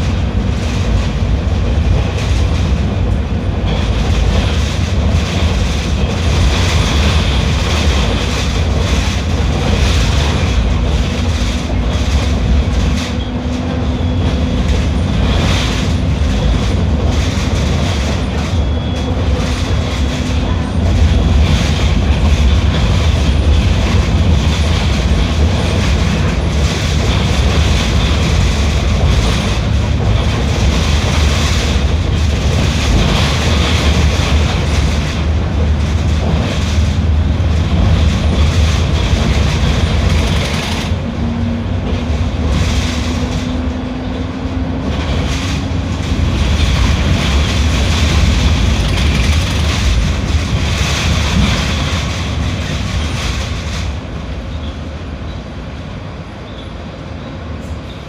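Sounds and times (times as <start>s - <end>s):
bus engine rumbling: 0.0s - 58.0s
rattling and clattering: 3.6s - 41.0s, 44.8s - 54.0s.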